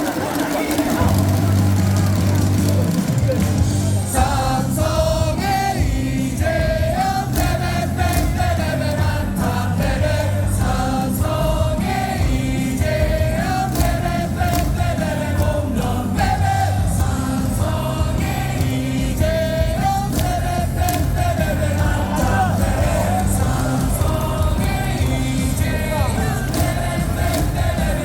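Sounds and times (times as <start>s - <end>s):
amplified music with steady beat: 0.0s - 28.0s
crowd singing a cheer song: 0.0s - 28.0s.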